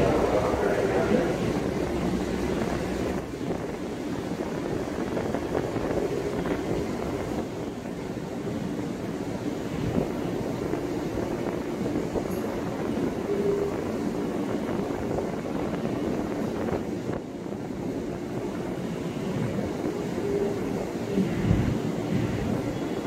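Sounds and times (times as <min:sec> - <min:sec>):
train wheels rumbling and clattering: 0:00.0 - 0:23.0.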